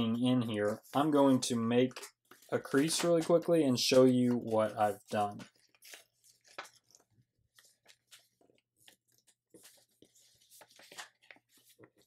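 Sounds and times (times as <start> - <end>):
paper crinkling being folded: 0.1 - 12.0.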